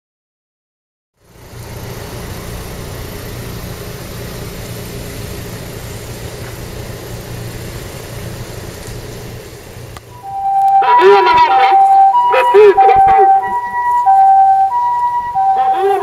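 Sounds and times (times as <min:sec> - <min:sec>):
vehicle engine idling: 0:01.2 - 0:16.0.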